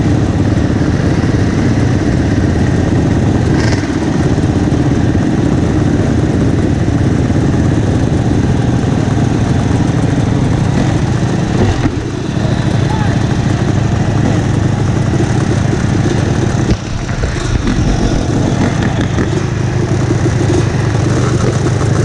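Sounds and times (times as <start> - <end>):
dirt bikes idling: 0.0 - 22.0.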